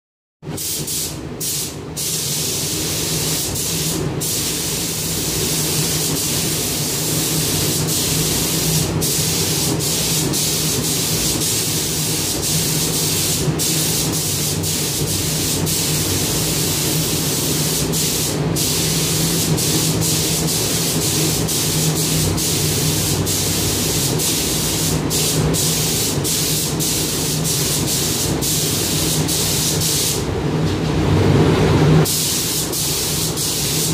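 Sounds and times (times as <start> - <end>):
steady low hum: 0.5 - 33.9
spray gun hissing: 0.6 - 30.2, 32.0 - 33.9.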